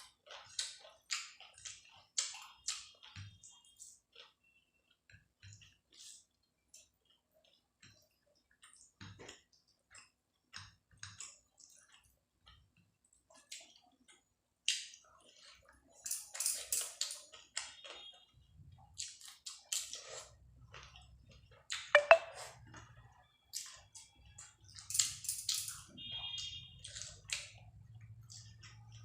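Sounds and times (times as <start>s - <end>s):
close-miked chewing: 0.0s - 29.0s.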